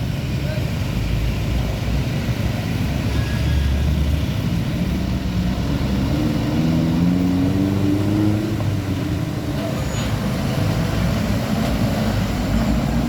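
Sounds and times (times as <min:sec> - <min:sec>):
heavy truck engine accelerating: 0:00.0 - 0:13.0.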